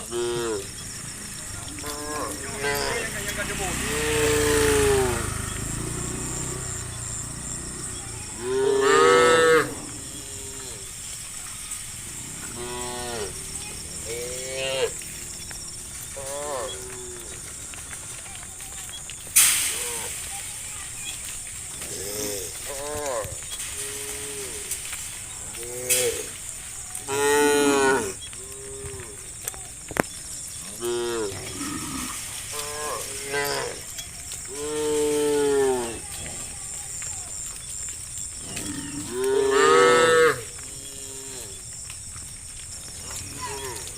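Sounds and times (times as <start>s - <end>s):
cows mooing: 0.0s - 18.1s, 21.8s - 26.4s, 27.0s - 29.3s, 30.6s - 36.5s, 38.4s - 41.7s, 42.9s - 43.9s.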